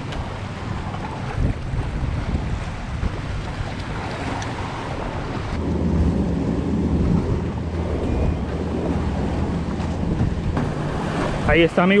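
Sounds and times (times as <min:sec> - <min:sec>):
boat engine humming: 0:00.0 - 0:12.0
wind buffeting microphone: 0:00.0 - 0:12.0.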